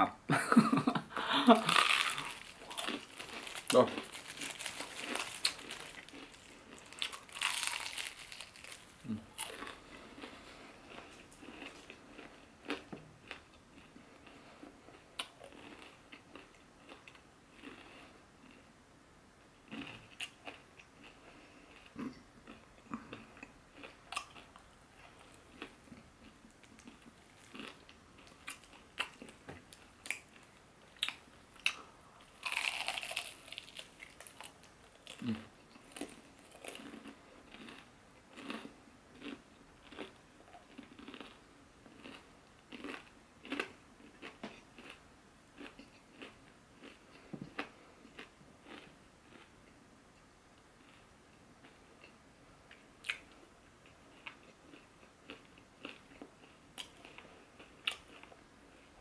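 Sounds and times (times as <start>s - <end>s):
chewing crispy fried chicken: 1.2s - 18.7s, 19.7s - 45.0s, 45.6s - 49.5s, 53.0s - 59.0s.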